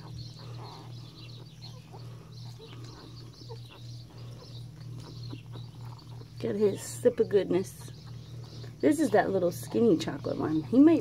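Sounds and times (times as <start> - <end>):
low pulsing hum: 0.0 - 11.0
puppies squeaking and grunting: 0.0 - 11.0.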